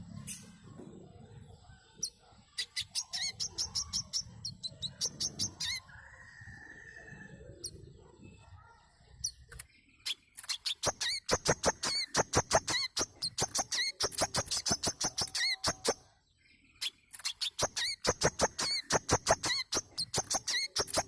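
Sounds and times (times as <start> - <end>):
bird sharp high chirps: 0.0 - 0.8, 1.6 - 6.4, 8.7 - 21.0.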